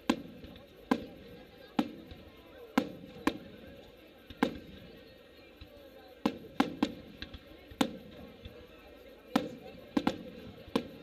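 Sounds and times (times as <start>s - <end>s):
firework shells bursting: 0.0s - 5.0s, 6.2s - 8.6s, 9.3s - 11.0s.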